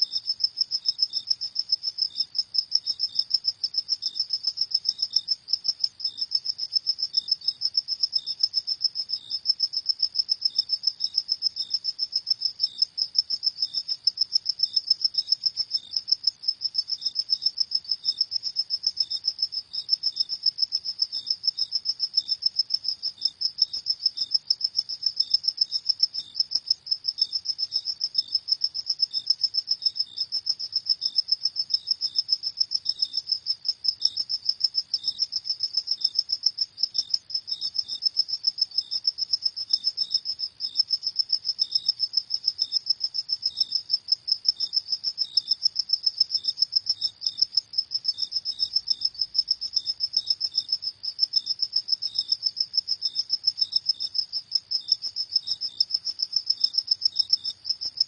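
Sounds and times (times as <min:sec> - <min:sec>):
crickets chirping fast: 0:00.0 - 0:58.0
slower insect chirp: 0:00.0 - 0:58.0.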